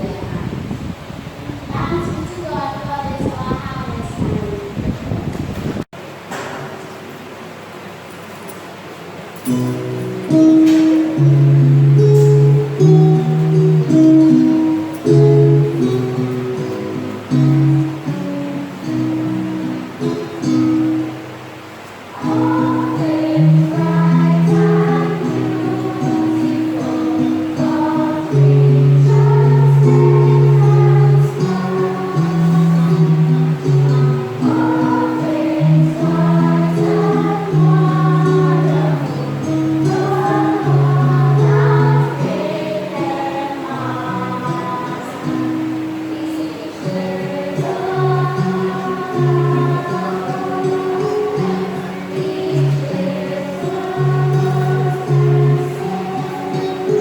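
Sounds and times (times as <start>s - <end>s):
choir singing sacred song: 9.4s - 57.0s
instrumental accompaniment: 9.4s - 57.0s.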